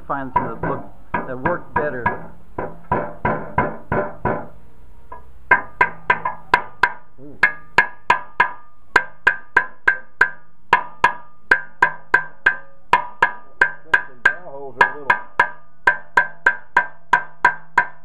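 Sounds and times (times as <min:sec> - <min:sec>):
mallet knocking on metal: 0:00.3 - 0:18.0.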